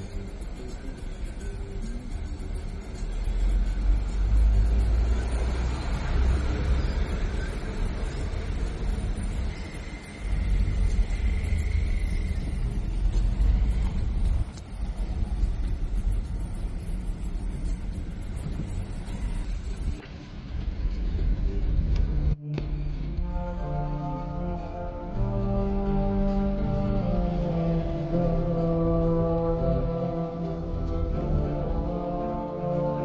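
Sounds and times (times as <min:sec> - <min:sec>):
road vehicle rumbling: 0:00.0 - 0:33.0.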